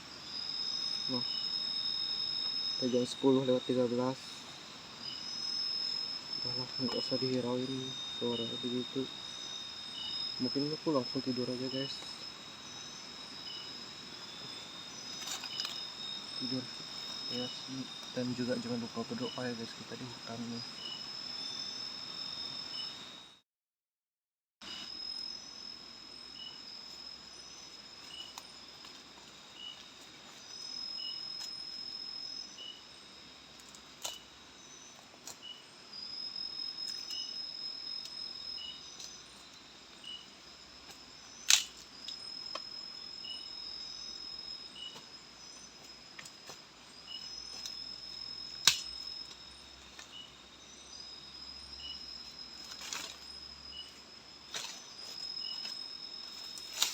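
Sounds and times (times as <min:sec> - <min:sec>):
insect chirp: 0:00.0 - 0:23.4, 0:24.6 - 0:56.9
insects trilling: 0:00.0 - 0:23.4, 0:24.6 - 0:56.9.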